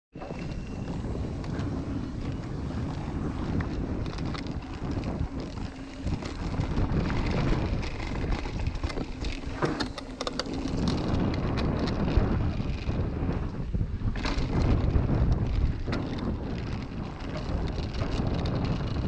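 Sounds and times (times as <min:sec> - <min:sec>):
bike clicks and rattles: 0:00.2 - 0:19.0
bike tyre rumble: 0:00.2 - 0:19.0
wind rushing over microphone: 0:00.2 - 0:19.0.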